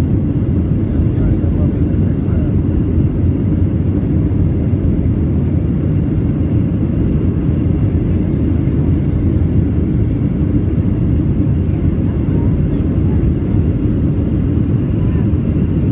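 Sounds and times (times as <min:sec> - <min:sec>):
airplane cabin roar: 0:00.0 - 0:15.9.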